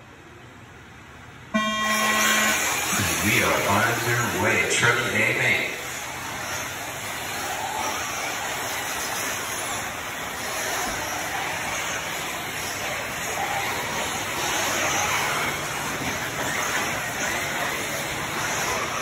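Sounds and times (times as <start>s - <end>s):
electric rc cars racing on dirt: 2.1s - 19.0s.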